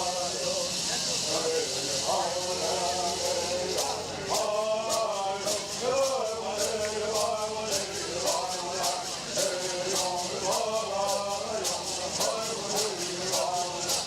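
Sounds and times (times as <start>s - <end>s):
gourd rattles shaken: 0.0s - 14.0s
singers chanting in unison: 0.0s - 14.0s.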